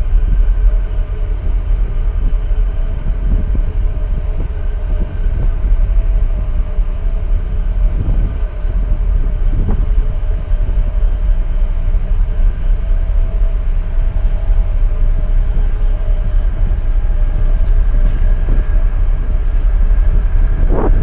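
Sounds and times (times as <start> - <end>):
boat engine rumble: 0.0 - 21.0
wind buffeting microphone: 0.0 - 21.0.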